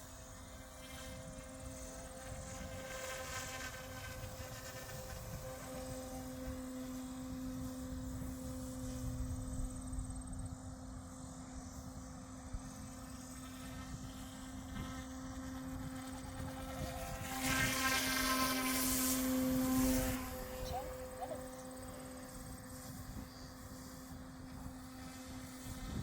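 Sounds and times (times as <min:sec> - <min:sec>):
rc helicopter rotor whine: 0:00.0 - 0:26.0.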